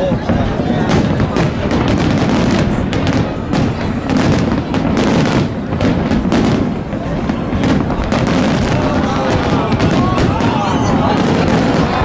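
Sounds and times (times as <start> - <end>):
fireworks bangs and booms: 0.0 - 12.0.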